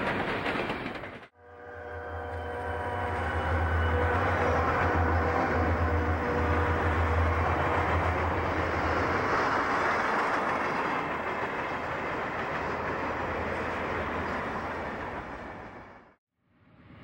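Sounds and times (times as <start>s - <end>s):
freight cars rumbling on rails: 0.0s - 16.2s
diesel locomotive engine drone: 0.0s - 17.0s.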